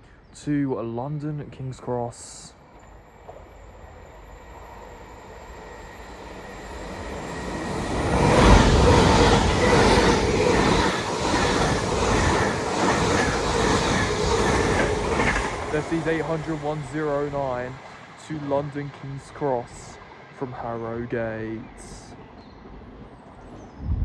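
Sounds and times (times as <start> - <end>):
train passing: 0.7 - 24.0
wheels rushing on rail: 2.6 - 24.0.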